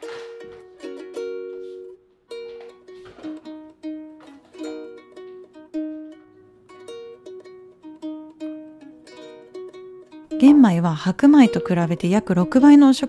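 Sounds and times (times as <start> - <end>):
plucked string instrument music: 0.0 - 13.0.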